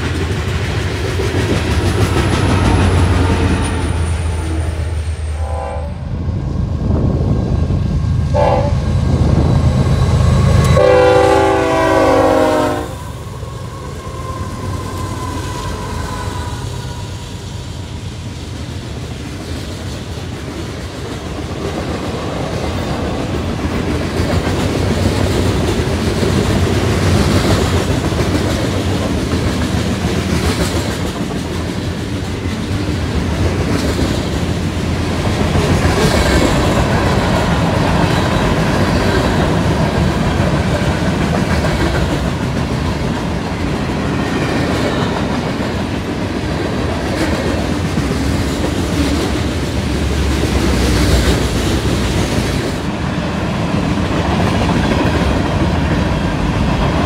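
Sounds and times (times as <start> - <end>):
steel wheels clattering on rail: 0.0 - 5.4, 8.3 - 57.0.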